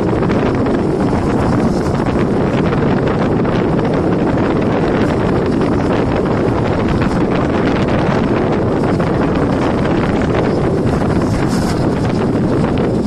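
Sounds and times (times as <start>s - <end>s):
train running rumble: 0.0s - 13.0s
wind rushing over microphone: 0.0s - 13.0s.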